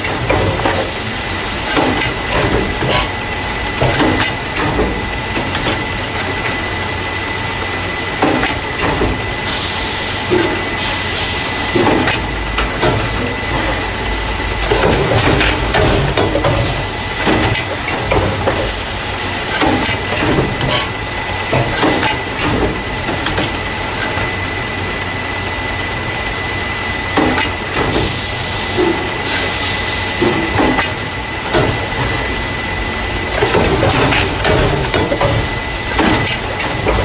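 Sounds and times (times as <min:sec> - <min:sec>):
packing machine knocking and clattering: 0:00.0 - 0:25.1, 0:26.1 - 0:37.0
high machine whine: 0:00.0 - 0:37.0
low machine hum: 0:00.0 - 0:37.0.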